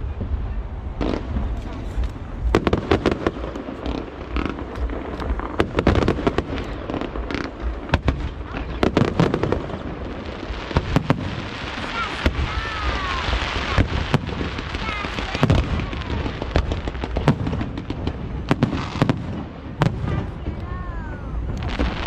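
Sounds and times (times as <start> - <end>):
firework crackle: 0.0 - 22.0.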